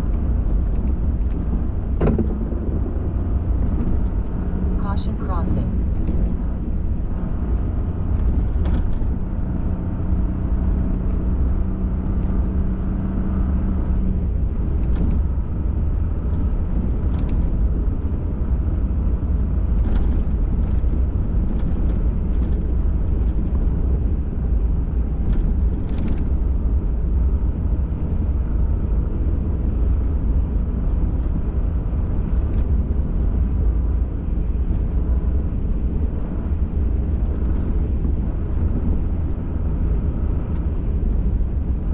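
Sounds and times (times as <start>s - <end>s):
truck engine and tyres rumbling: 0.0s - 41.9s.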